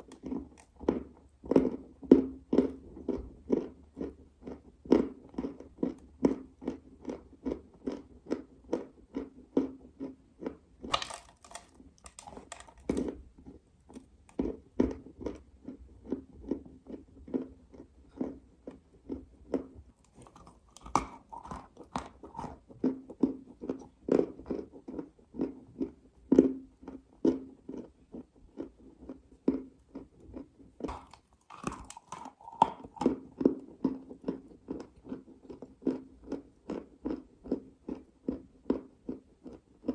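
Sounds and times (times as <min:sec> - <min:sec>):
dry clay being chewed: 0:00.0 - 0:39.9.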